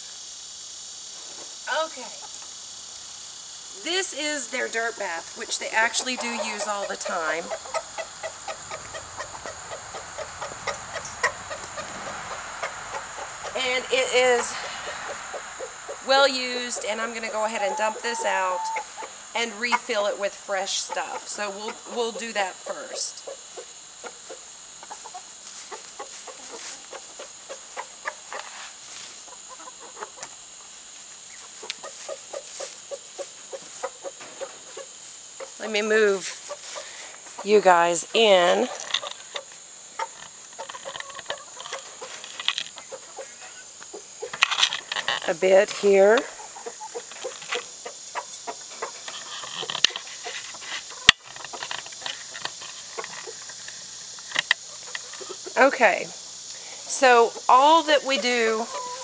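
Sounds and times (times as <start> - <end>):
high insect drone: 0.0 - 59.0
hens clucking: 3.8 - 55.8, 56.9 - 59.0.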